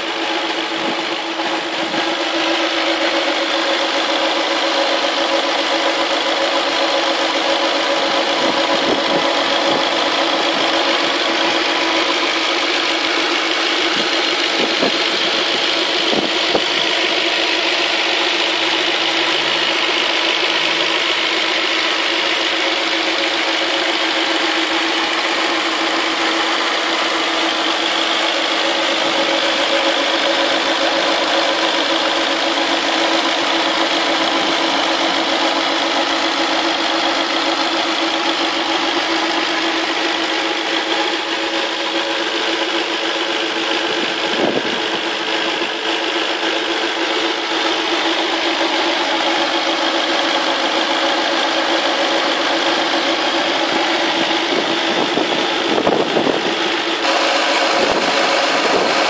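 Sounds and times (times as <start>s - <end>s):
car engine idling: 0.0s - 59.0s
fuel injectors ticking: 0.0s - 59.0s.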